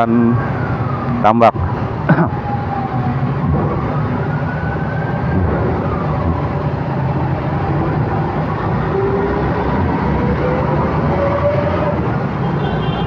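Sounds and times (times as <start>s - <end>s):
road noise: 0.0s - 13.0s
vehicle engines running: 0.2s - 13.0s.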